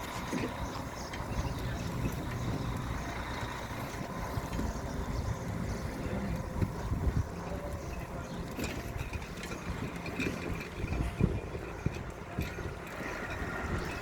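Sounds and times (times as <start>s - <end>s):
road traffic on wet street: 0.0s - 10.8s, 11.7s - 14.0s.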